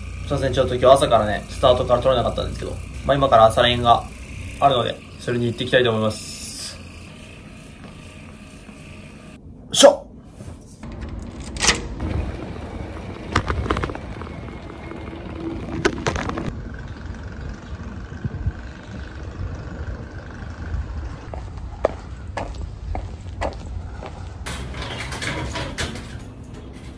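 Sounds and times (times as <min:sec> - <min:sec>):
street rumble: 0:00.0 - 0:09.6, 0:10.8 - 0:26.9.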